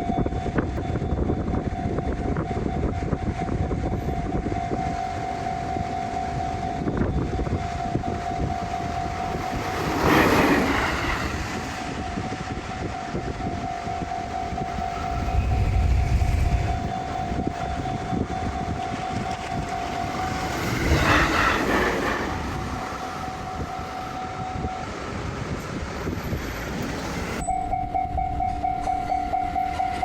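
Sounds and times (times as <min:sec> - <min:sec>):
crossing warning bell: 0:00.0 - 0:30.0
train rumbling past: 0:00.2 - 0:30.0.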